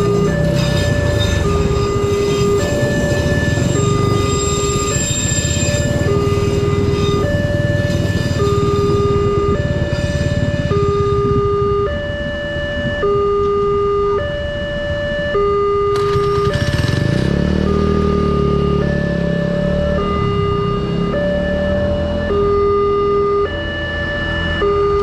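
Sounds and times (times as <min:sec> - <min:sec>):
level crossing two-tone alarm: 0:00.0 - 0:25.0.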